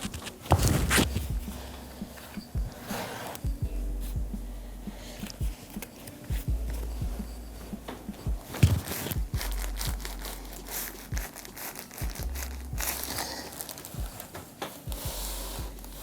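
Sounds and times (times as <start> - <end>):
rustling and crinkling: 0.0 - 4.2, 5.0 - 16.0.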